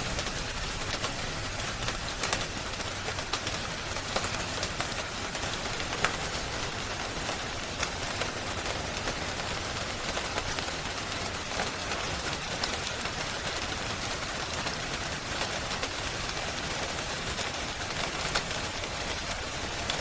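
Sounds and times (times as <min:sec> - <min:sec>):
rain hiss: 0:00.0 - 0:20.0
wood fire crackling and popping: 0:00.0 - 0:20.0.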